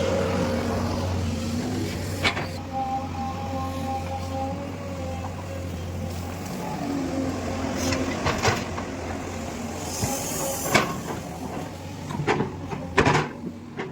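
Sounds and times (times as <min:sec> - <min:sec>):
excavator engine running: 0:00.0 - 0:13.9.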